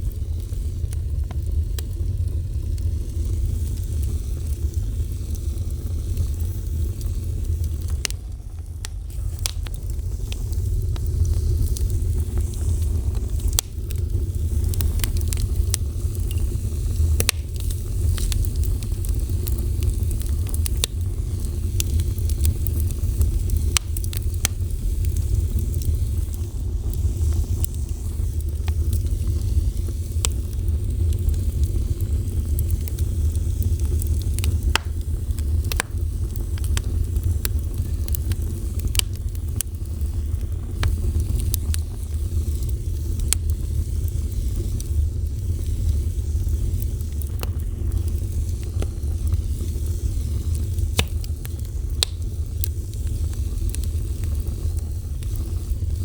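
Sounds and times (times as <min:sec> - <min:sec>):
burning wood crackling: 0:00.0 - 0:56.0
wood fire rumbling: 0:00.0 - 0:56.0.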